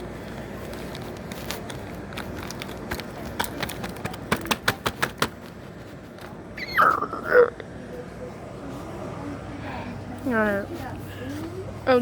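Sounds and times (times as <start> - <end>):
store background noise: 0.0 - 12.0.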